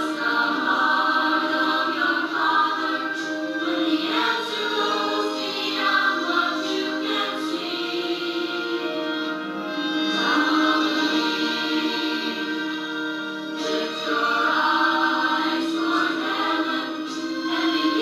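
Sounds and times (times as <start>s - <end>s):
church choir singing: 0.0s - 18.0s.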